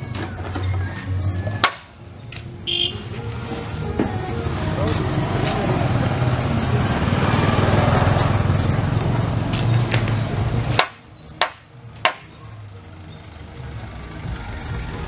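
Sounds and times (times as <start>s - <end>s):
engine running low rumble: 0.0s - 15.0s.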